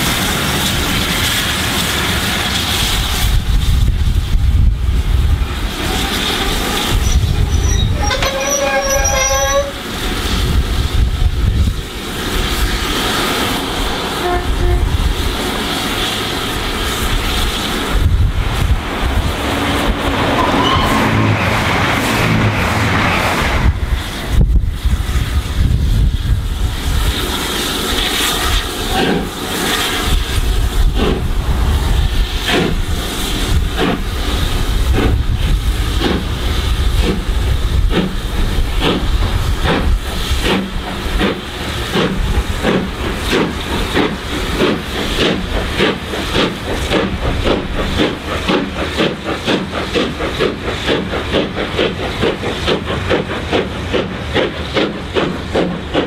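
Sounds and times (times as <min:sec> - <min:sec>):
steam hissing: 0:00.0 - 0:56.0
steam locomotive exhaust beats: 0:00.0 - 0:56.0.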